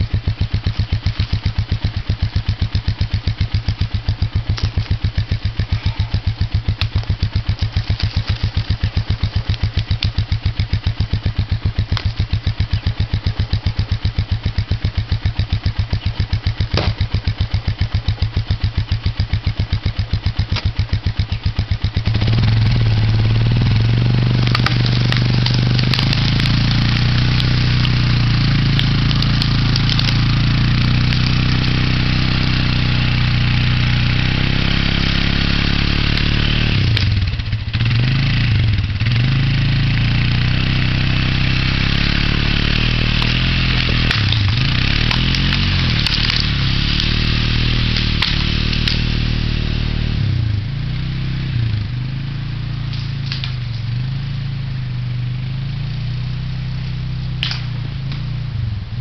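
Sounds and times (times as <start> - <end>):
sharp ticks and crackles: 0.0 - 34.2, 35.0 - 49.6, 52.8 - 54.5, 56.0 - 58.5
atv engine running: 0.0 - 59.0.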